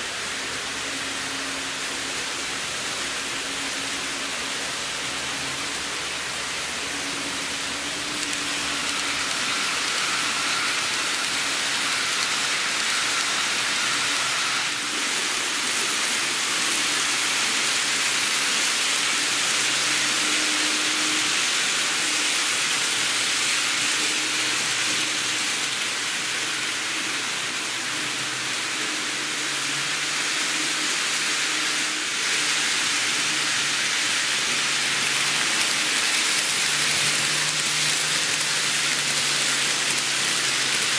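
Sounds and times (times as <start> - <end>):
model train wheels rattling on rails: 0.0 - 40.9.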